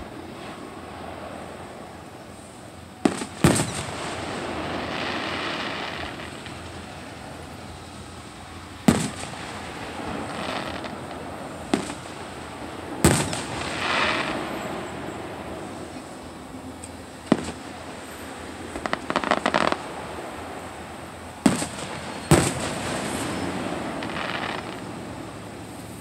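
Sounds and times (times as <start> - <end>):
firework shells booming: 3.0 - 16.4, 17.2 - 25.5.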